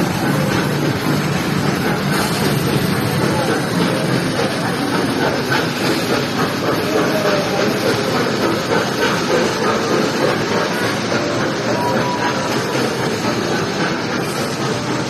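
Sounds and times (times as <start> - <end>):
ride-on train rumbling: 0.0 - 15.0.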